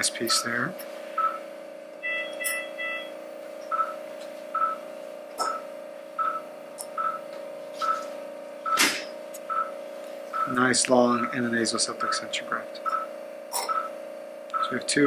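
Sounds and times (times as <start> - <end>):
steady equipment hum: 0.0 - 15.0
patient monitor beeping: 1.1 - 14.9.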